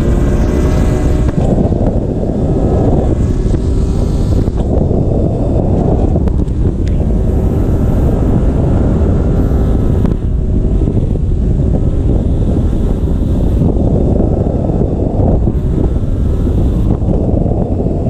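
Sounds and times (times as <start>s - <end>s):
car engine running evenly: 0.0s - 18.0s
wind rumble on microphone: 0.0s - 18.0s.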